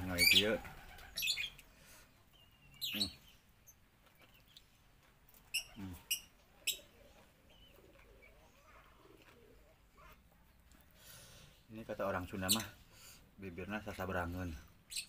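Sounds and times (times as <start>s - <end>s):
songbird chirping: 0.0s - 12.8s.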